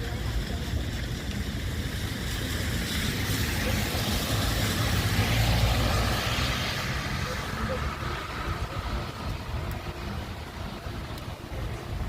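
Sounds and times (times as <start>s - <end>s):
car passing on wet road: 0.1s - 12.0s.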